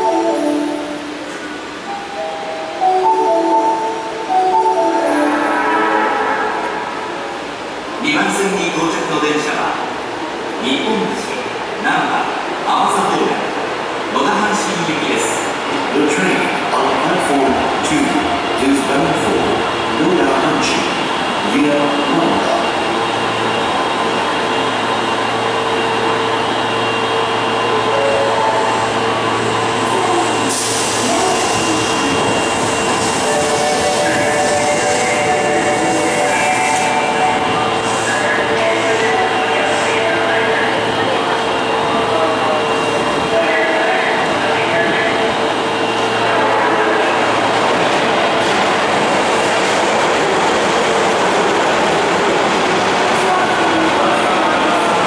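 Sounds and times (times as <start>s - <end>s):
train running rumble and whine: 0.0s - 55.0s.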